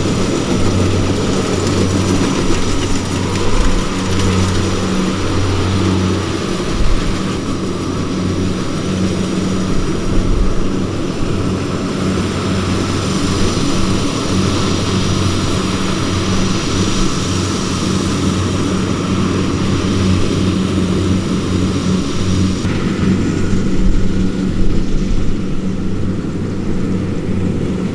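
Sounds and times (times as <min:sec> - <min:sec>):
clatter of working machine: 0:00.0 - 0:27.9
diesel engine running: 0:00.0 - 0:27.9.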